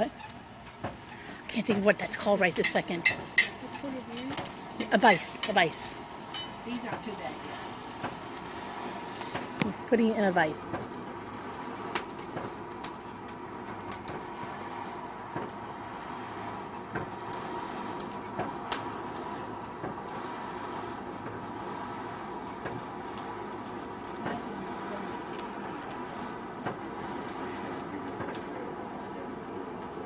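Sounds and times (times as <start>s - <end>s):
steady hiss: 0.1s - 30.0s.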